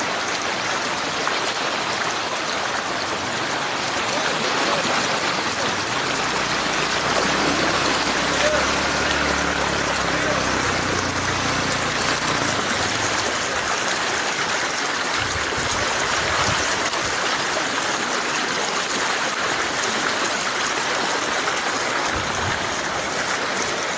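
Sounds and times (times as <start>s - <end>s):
floodwater rushing: 0.0s - 23.9s.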